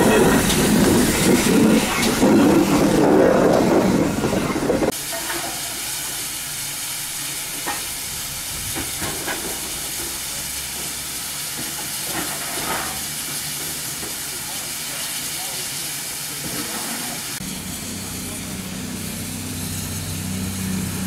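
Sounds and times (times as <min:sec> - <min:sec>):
hiss of escaping steam: 0:00.0 - 0:21.0
steam locomotive running past: 0:00.0 - 0:21.0.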